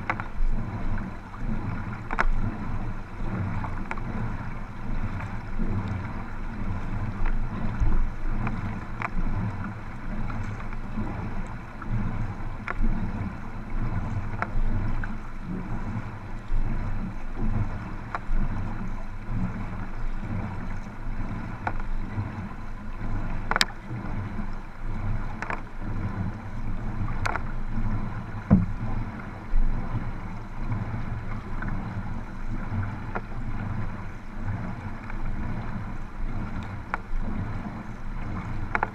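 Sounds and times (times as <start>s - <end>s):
paddle splashes or knocks: 0.0s - 38.9s
water sloshing and splashing: 0.0s - 38.9s
wind rumble on microphone: 0.0s - 38.9s.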